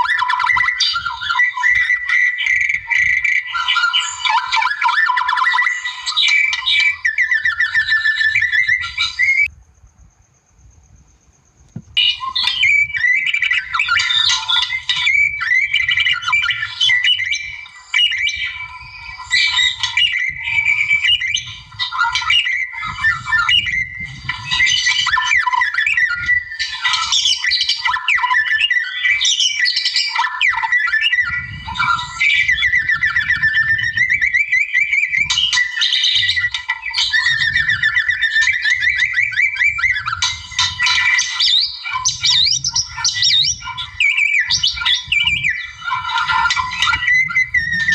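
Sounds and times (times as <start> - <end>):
songbird whistling and trilling: 0.0 - 47.9.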